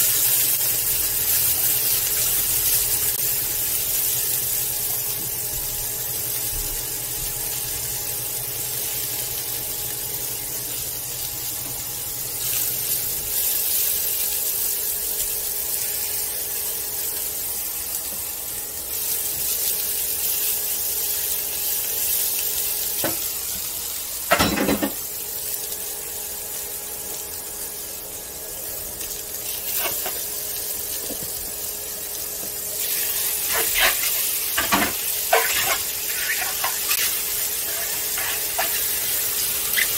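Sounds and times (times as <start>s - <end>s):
vegetables sizzling in a pan: 0.0s - 39.9s.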